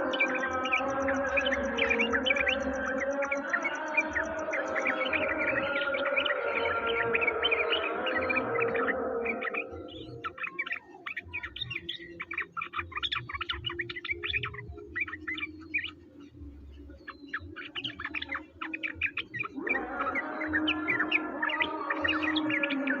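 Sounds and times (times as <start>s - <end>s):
songbird chirping and twittering: 0.0s - 23.0s.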